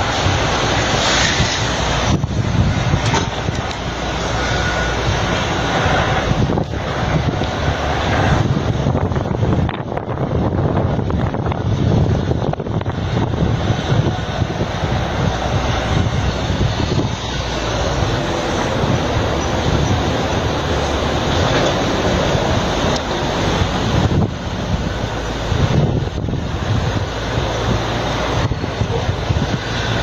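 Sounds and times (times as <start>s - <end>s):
blizzard wind gusting: 0.0s - 30.0s.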